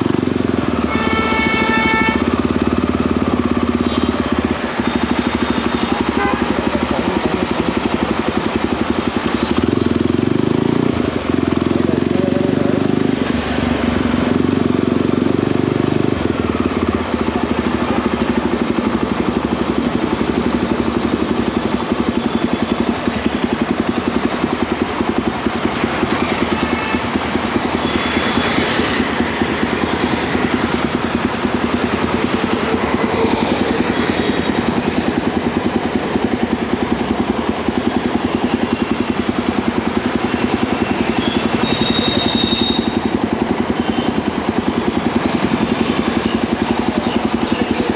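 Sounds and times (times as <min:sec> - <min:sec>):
wind and road noise: 0:00.0 - 0:21.5, 0:22.9 - 0:47.9
motorcycle engine running: 0:00.0 - 0:47.9.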